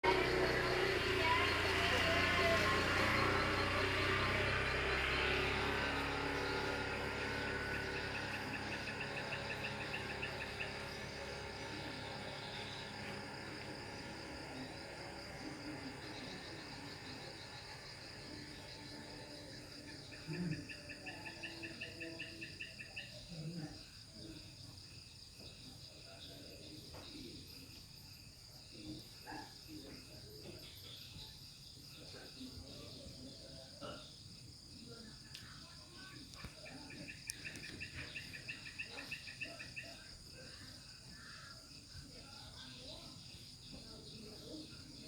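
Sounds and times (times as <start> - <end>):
crickets chirring: 0.0 - 45.0
pulsed insect trill: 0.0 - 45.0.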